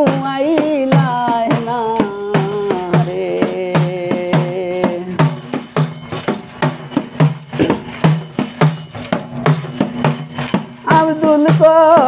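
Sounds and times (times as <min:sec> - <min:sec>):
tambourine beat with jingles: 0:00.0 - 0:12.0.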